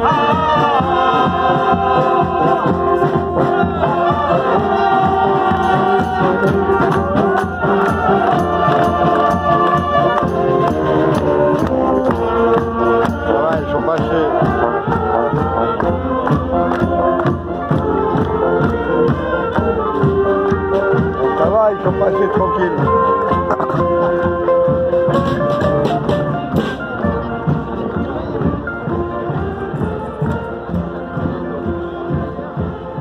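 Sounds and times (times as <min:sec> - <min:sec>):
brass band playing: 0:00.0 - 0:33.0.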